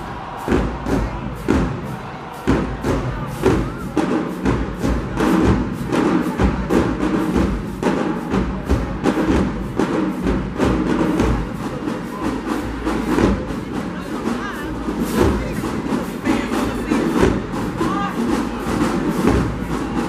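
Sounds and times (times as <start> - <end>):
drumline playing fast cadence: 0.0 - 20.0.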